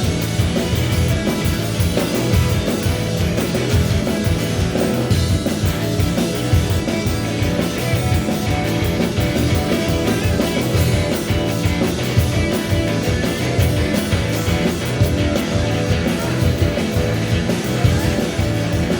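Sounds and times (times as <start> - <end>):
bass guitar: 0.0 - 18.9
drum kit: 0.0 - 18.9
electric guitar: 0.0 - 18.9.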